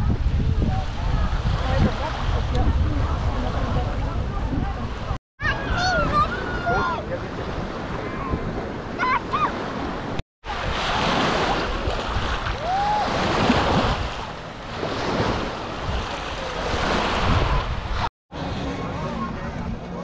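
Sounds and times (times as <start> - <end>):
wind buffeting microphone: 0.0 - 18.1
waves washing onto sandy shore: 0.0 - 19.6.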